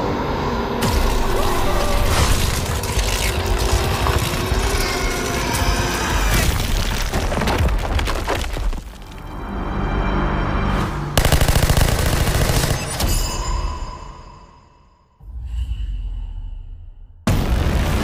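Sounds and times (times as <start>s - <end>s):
dramatic film score: 0.0s - 18.0s.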